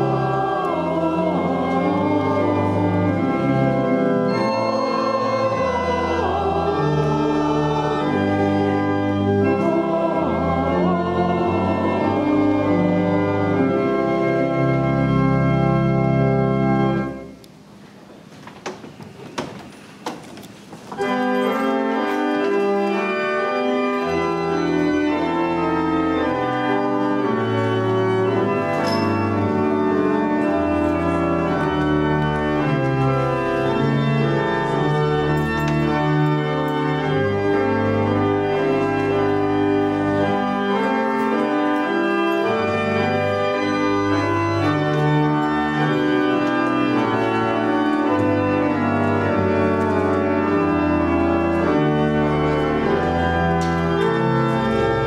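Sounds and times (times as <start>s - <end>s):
pipe organ chords: 0.0s - 17.4s, 20.9s - 55.0s.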